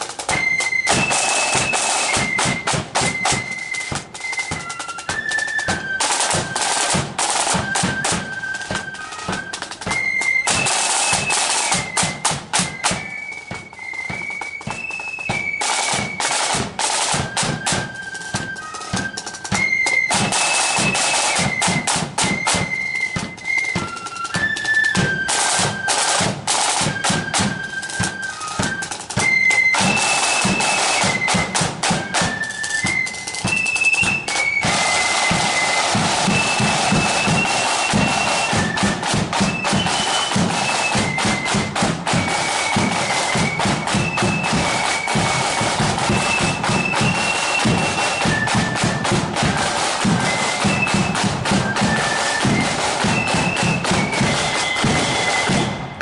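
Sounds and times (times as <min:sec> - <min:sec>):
flutes playing a tune: 0:00.0 - 0:56.0
snare drum strokes: 0:00.0 - 0:56.0.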